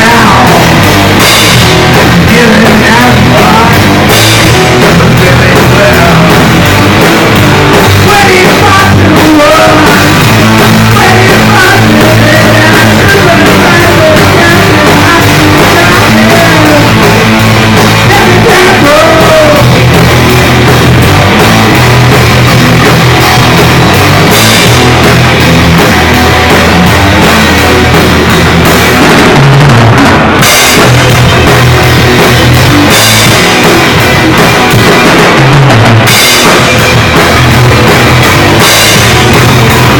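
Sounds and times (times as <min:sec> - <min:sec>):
bass line: 0:00.0 - 0:39.9
dense guitar sound: 0:00.0 - 0:39.9
drum kit: 0:00.0 - 0:39.9
rock band playing: 0:00.0 - 0:39.9.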